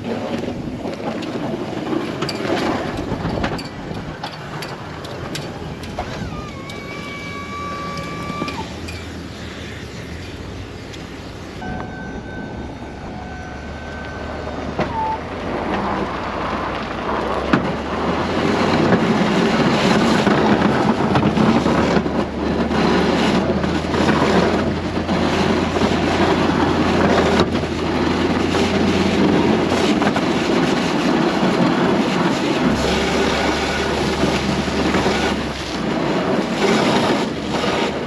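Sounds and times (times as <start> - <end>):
blizzard wind buffeting microphone: 0.0 - 38.0
low engine hum: 0.0 - 38.0.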